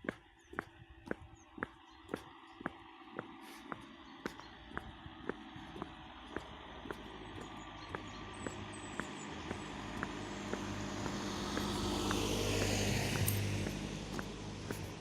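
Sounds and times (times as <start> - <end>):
footsteps walking: 0.0 - 15.0
passing car engine and tyres: 0.0 - 15.0.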